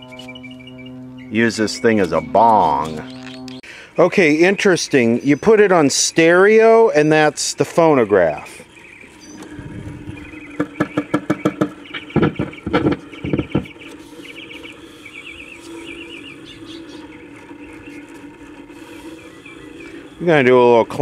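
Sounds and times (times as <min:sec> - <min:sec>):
birds chirping faintly: 0:00.0 - 0:21.0
steady low hum: 0:00.0 - 0:21.0.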